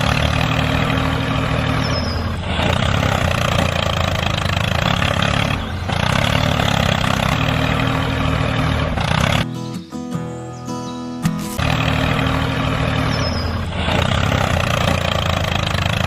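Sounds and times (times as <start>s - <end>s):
engine running steadily: 0.0s - 9.5s, 11.4s - 16.0s.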